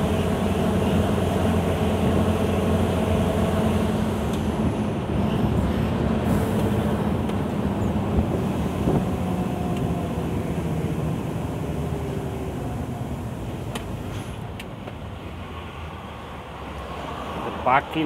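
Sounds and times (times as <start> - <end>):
diesel engine running: 0.0 - 15.7
road noise: 0.0 - 18.0.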